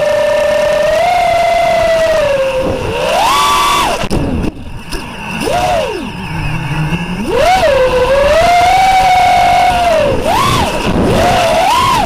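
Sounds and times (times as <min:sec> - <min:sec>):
drone motors whining: 0:00.0 - 0:12.0.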